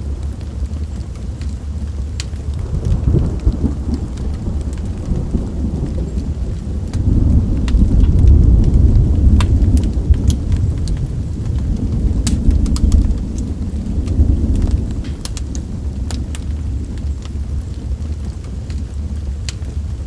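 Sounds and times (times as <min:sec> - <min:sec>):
rolling thunder: 0:00.0 - 0:20.0
steady rain: 0:00.0 - 0:20.0
wood fire crackling: 0:00.0 - 0:20.0.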